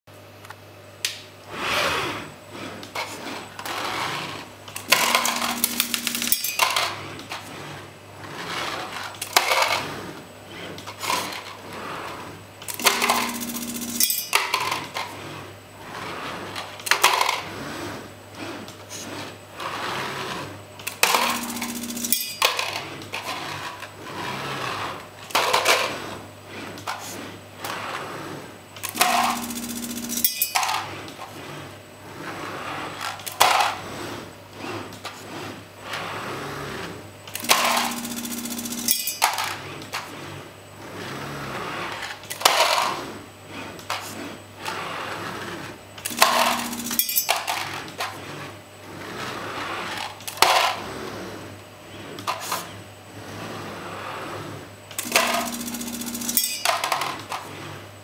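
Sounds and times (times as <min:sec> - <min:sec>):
steady low hum: 0:00.1 - 0:58.0
robot arm motors whirring: 0:01.5 - 0:57.8.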